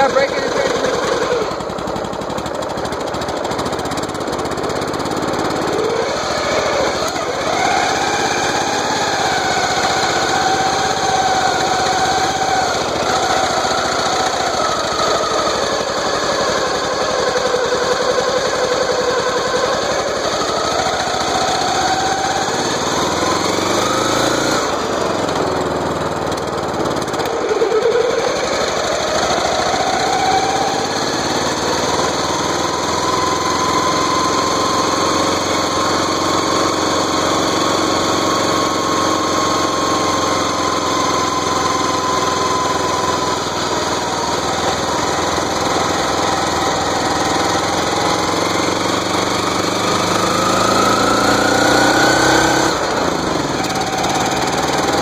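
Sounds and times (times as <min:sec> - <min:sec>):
riding lawn mower engine running: 0:00.0 - 0:55.0.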